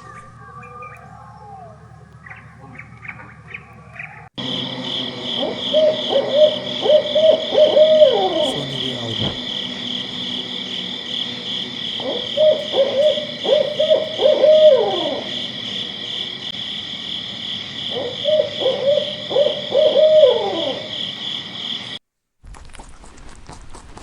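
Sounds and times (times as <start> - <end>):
owl hooting: 0.0 - 16.6, 17.8 - 22.0.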